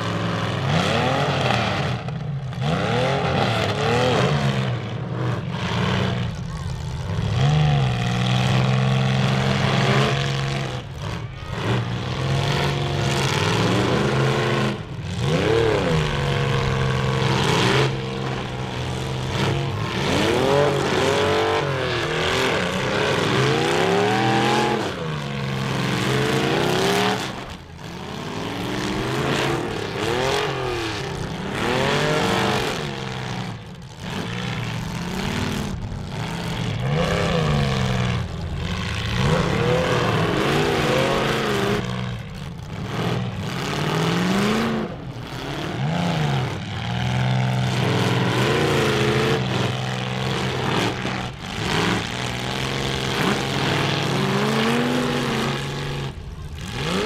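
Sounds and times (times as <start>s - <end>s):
car engines revving: 0.0s - 57.0s
low engine drone: 0.0s - 57.0s.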